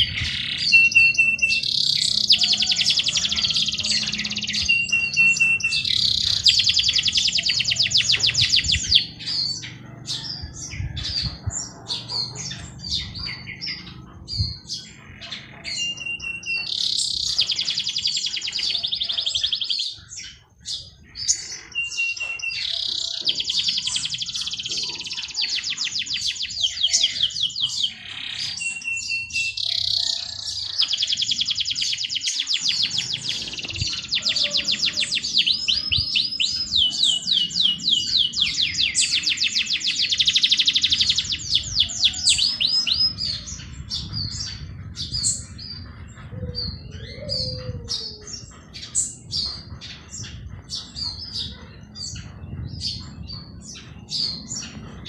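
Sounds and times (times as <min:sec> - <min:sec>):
songbirds trilling: 0:00.0 - 0:55.0.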